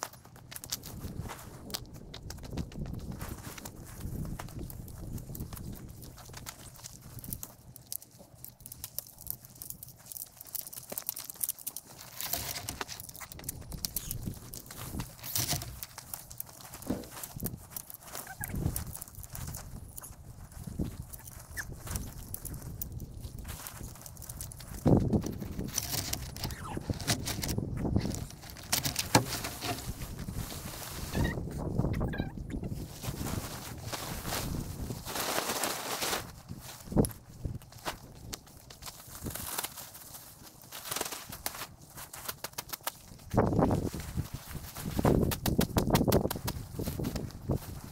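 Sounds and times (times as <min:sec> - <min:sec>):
tent fabric rustling and crackling: 0:00.0 - 0:47.9
footsteps on dry leaves: 0:02.7 - 0:32.0, 0:32.6 - 0:47.9
plastic tarp crinkling: 0:03.1 - 0:47.9.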